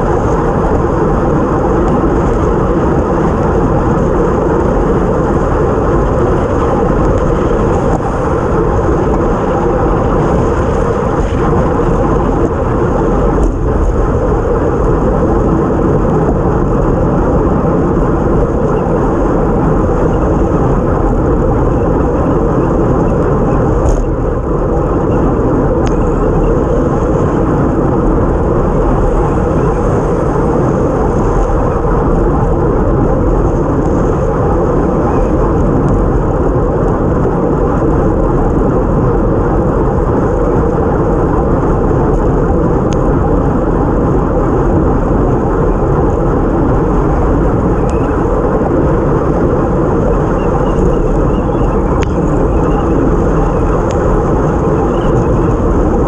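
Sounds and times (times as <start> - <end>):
tyre and road noise: 0.0 - 56.0
wind buffeting camera: 0.0 - 56.0.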